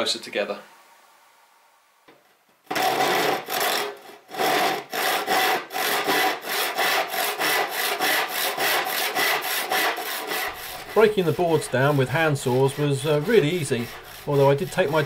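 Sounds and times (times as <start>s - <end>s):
hand saw cutting wood: 2.7s - 15.0s.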